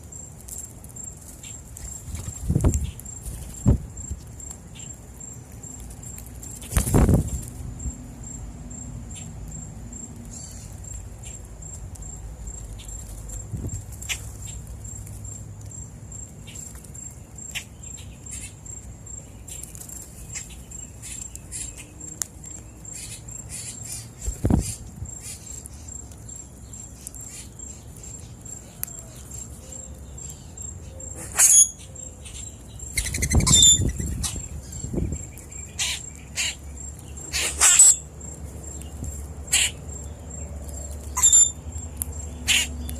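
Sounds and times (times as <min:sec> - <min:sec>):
rustle: 0:00.0 - 0:42.9
birds chirping: 0:08.2 - 0:42.9.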